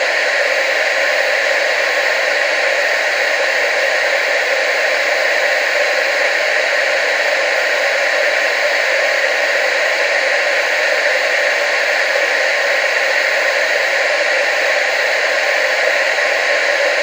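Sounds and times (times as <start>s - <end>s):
television static hiss: 0.0s - 17.0s.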